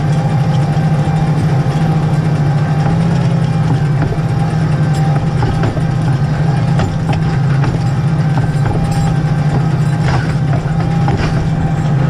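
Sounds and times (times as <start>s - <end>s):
farm vehicle engine running: 0.0s - 12.0s
light ticks and rattles: 0.0s - 12.0s.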